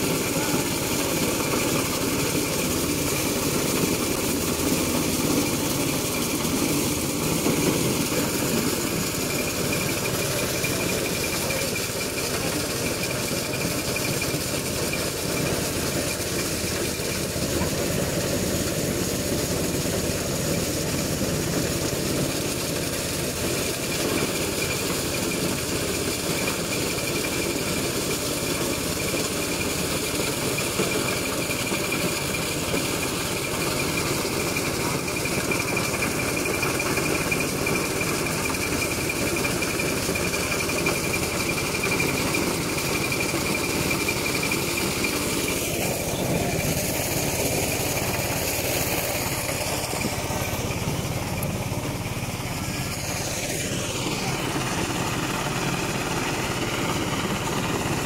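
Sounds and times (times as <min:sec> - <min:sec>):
engine driven maize sheller: 0:00.0 - 0:58.0.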